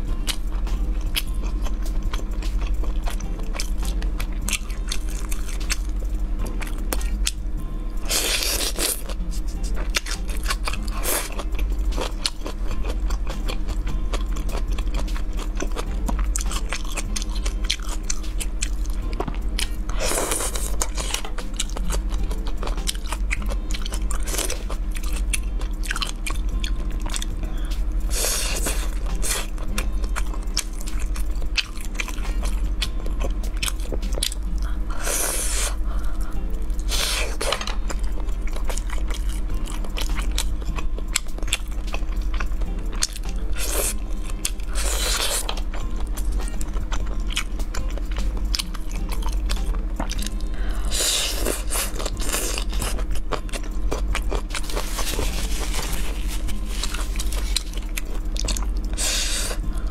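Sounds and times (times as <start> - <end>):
chewing with crisp crunches: 0.0 - 59.9
low hum: 0.0 - 59.9
rasping noises: 0.0 - 59.9.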